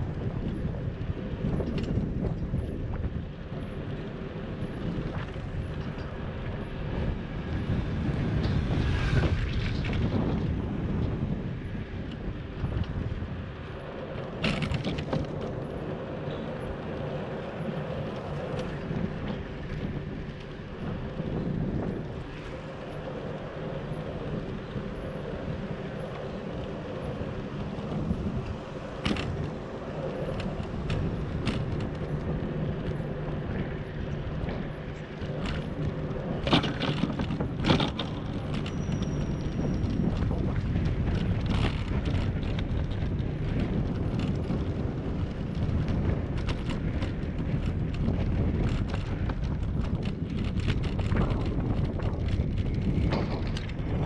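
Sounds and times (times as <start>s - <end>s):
bicycle tyres rolling on road: 0.0s - 54.0s
bike rattling over bumps: 0.0s - 54.0s.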